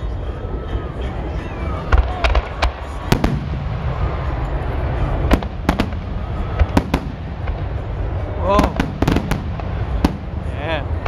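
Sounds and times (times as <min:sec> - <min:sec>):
steady low rumble: 0:00.0 - 0:11.0
fireworks bursting with sharp bangs: 0:00.8 - 0:11.0.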